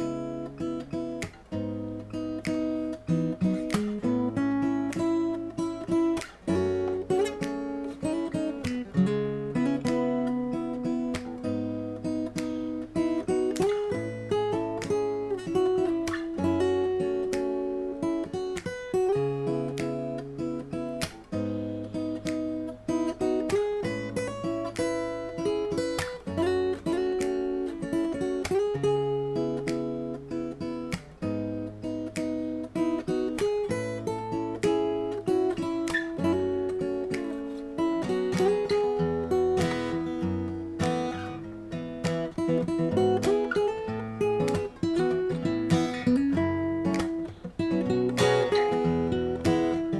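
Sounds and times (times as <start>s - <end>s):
acoustic guitar strumming chords: 0.0s - 49.9s.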